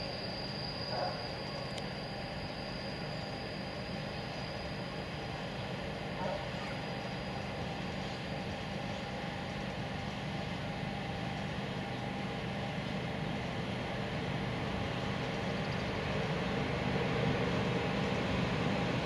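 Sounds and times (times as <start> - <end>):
electric locomotive hum and rumble: 0.0 - 19.0.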